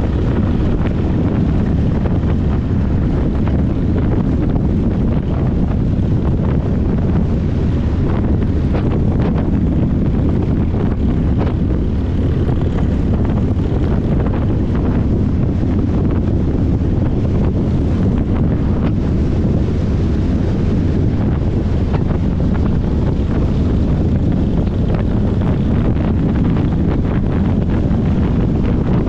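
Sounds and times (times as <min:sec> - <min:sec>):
steady low rumble: 0:00.0 - 0:29.0
wind buffeting microphone: 0:00.0 - 0:29.0.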